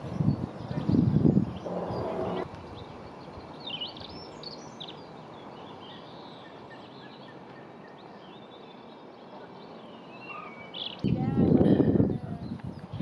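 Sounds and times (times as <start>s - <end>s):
small birds calling faintly: 0.0s - 13.0s.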